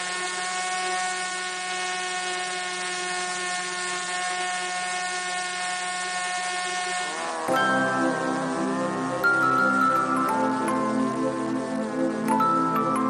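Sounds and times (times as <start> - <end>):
drone motor and propeller whining: 0.0 - 13.0.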